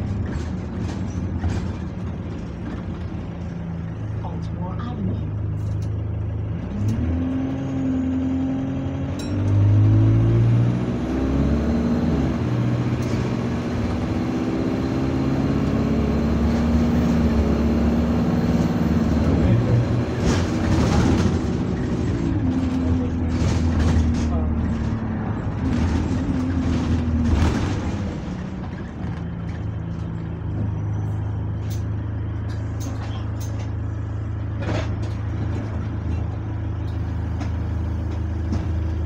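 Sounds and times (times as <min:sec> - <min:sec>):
bus engine accelerating: 0:00.0 - 0:39.0.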